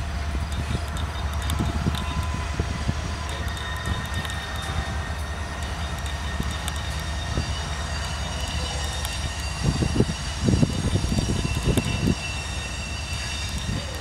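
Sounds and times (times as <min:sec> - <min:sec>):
train wheels rumbling on rail: 0:00.0 - 0:14.0
high-pitched wheel squeal: 0:01.0 - 0:14.0.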